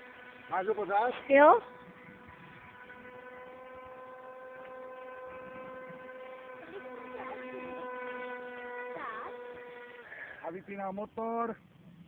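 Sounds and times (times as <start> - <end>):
model plane motor droning: 0.0 - 12.0.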